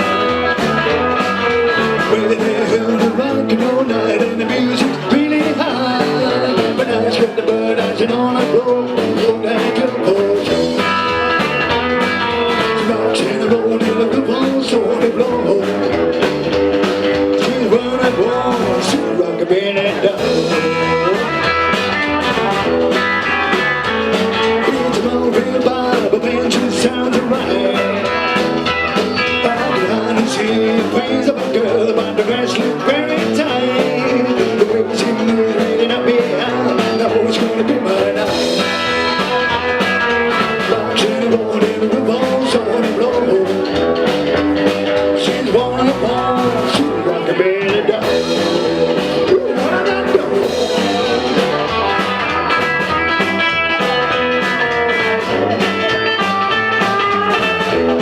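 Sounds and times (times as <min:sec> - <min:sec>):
guitar: 0:00.0 - 0:58.0
person singing: 0:00.0 - 0:58.0
rockabilly band music: 0:00.0 - 0:58.0.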